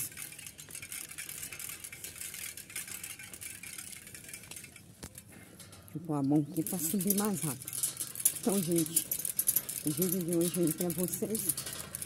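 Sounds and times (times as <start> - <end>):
bicycle rattling: 0.0 - 12.0.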